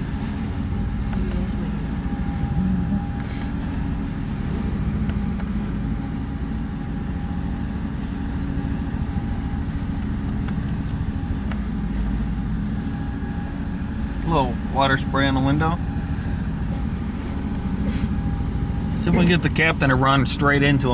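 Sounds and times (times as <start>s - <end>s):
boat engine droning: 0.0s - 20.9s.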